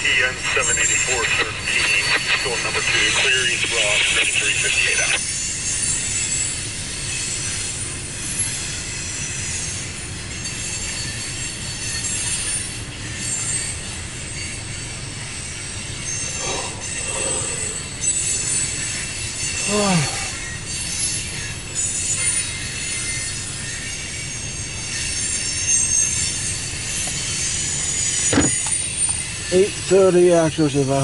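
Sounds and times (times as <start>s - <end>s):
steel wheels rumbling on rail: 0.0s - 31.0s
high-pitched wheel squeal: 5.2s - 31.0s.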